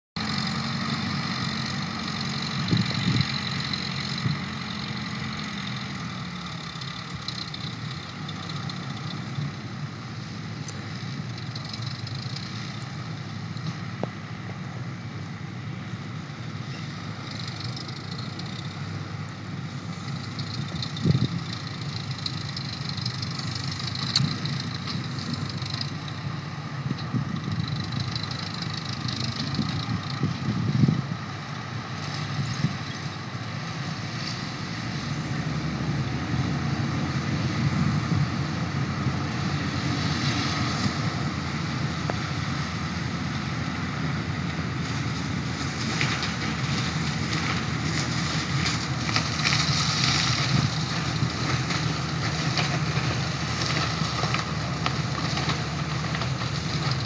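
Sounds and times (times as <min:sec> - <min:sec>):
harvester and tractor engines: 0:00.0 - 0:57.0.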